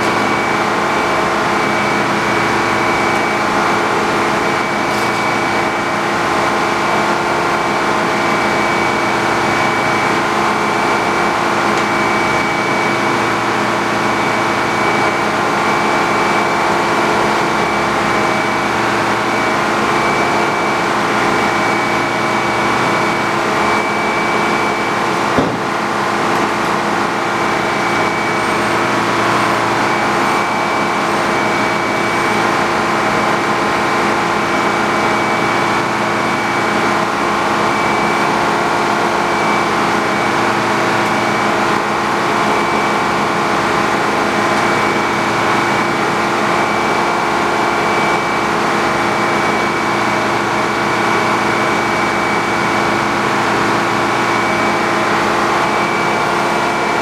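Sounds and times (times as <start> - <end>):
sawmill droning hum: 0.0 - 57.0.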